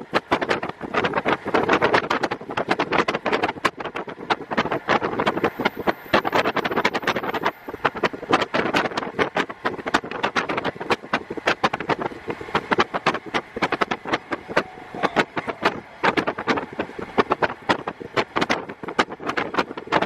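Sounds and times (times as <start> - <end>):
diesel railcar engine: 0.0 - 20.0
wind buffeting microphone: 0.0 - 20.0.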